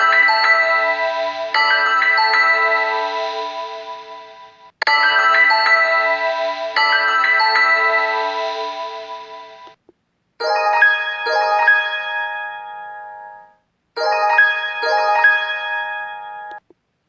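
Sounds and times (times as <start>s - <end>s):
polyphonic phone ringtone: 0.0s - 9.8s, 10.4s - 16.6s.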